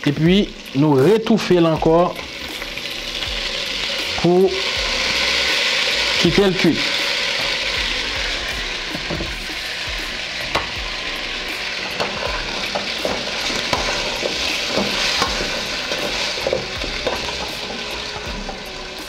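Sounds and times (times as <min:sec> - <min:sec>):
beef sizzling in oil: 0:00.0 - 0:19.0.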